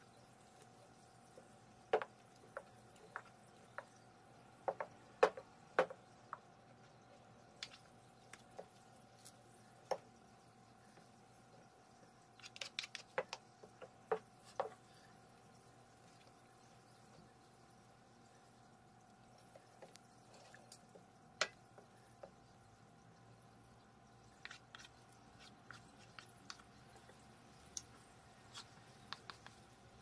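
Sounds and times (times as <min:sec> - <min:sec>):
sticky squelches of stirring: 0:00.0 - 0:30.0.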